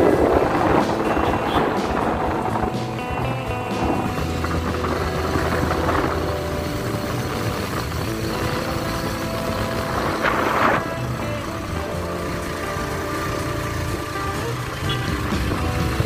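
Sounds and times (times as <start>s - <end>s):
motorcycle engine running: 0.0s - 16.0s
rush of noise: 0.0s - 16.0s.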